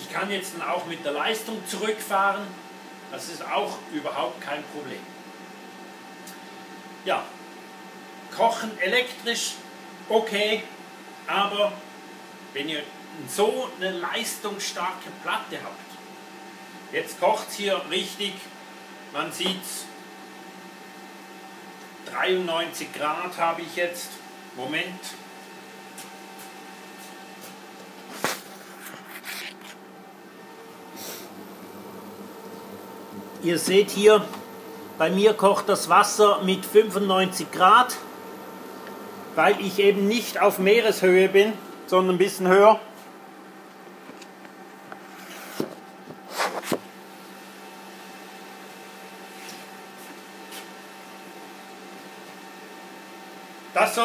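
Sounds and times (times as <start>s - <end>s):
induction hob hum and hiss: 0.0s - 54.0s.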